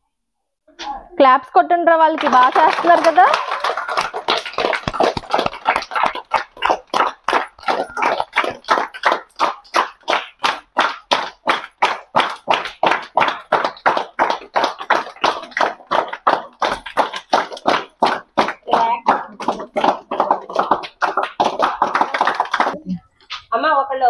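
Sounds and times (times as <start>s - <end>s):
children clapping in rhythm: 2.1s - 22.8s.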